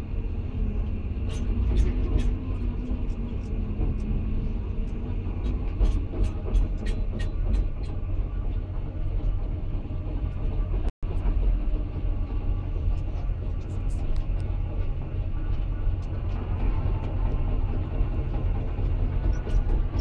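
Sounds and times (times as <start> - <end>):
excavator engine rumbling: 0.0 - 20.0.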